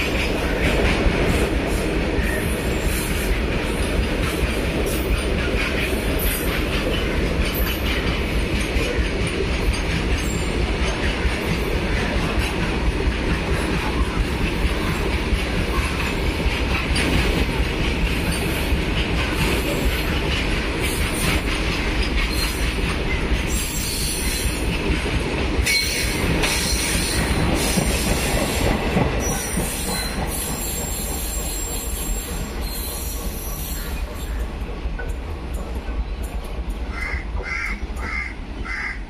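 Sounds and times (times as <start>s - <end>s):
train wheels rumbling and clattering: 0.0s - 39.0s.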